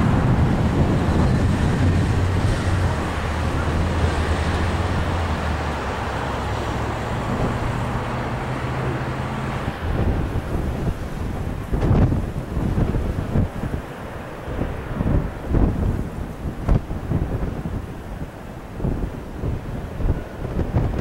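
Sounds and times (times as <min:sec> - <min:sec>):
propeller plane drone: 0:00.0 - 0:21.0
traffic noise: 0:00.0 - 0:21.0
wind: 0:00.0 - 0:21.0.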